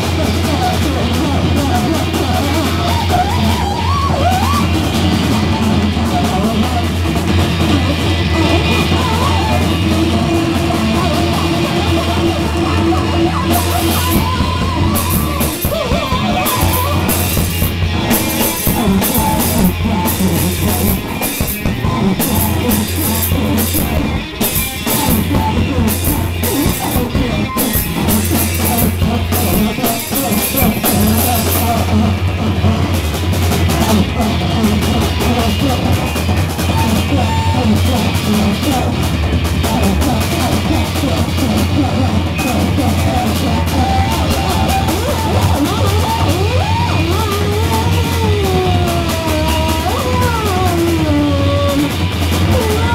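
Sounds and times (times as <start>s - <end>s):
distorted electric guitar: 0.0s - 52.9s
drum kit with crashing cymbals: 0.0s - 52.9s
heavy low bass note: 4.7s - 52.9s.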